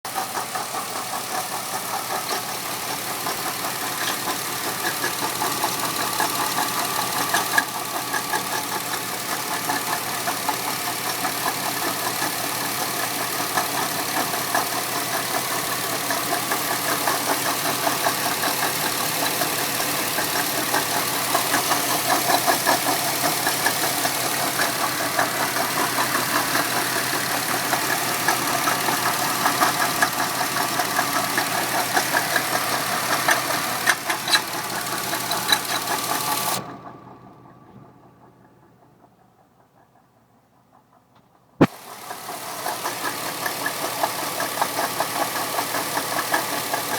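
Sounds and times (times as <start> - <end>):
car engine idling: 0.1 - 46.9.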